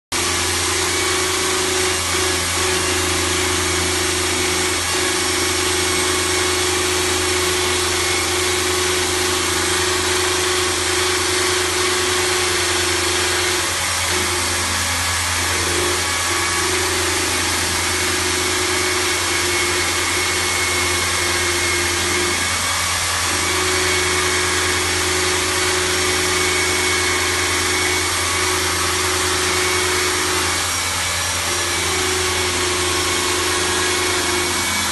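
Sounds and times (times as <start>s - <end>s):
harsh metal cutting noise: 0.1s - 34.9s
lathe motor hum: 0.2s - 34.9s.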